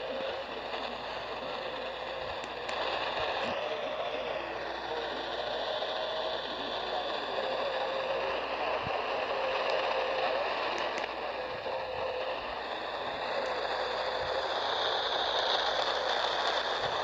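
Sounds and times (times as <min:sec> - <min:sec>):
radio static and hiss: 0:00.0 - 0:17.0.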